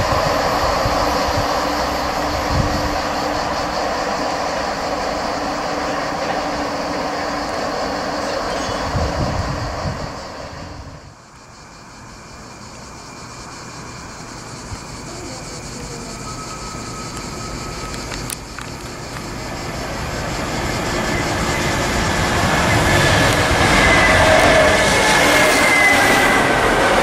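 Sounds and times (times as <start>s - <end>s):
freight train approaching: 0.0s - 27.0s
high whining tones: 0.0s - 27.0s.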